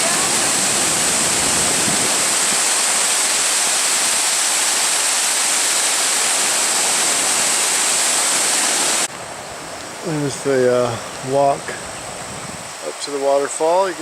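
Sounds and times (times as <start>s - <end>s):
waterfall and river rushing: 0.0s - 14.0s.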